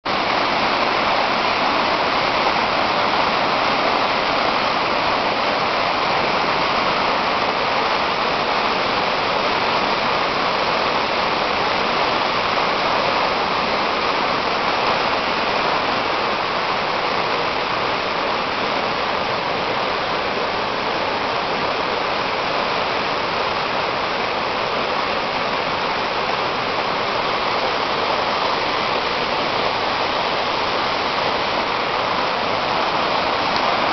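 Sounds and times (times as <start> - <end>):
floodwater rushing and churning: 0.1 - 33.9.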